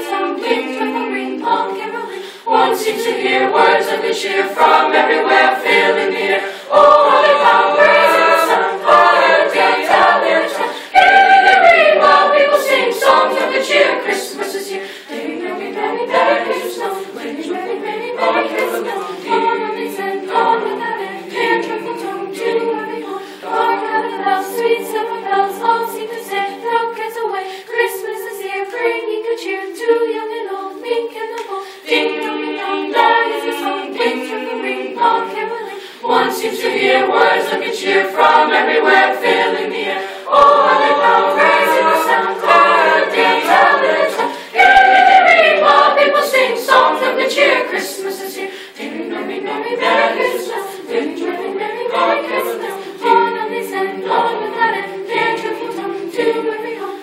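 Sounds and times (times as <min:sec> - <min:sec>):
choir singing a cappella: 0:00.0 - 0:57.0.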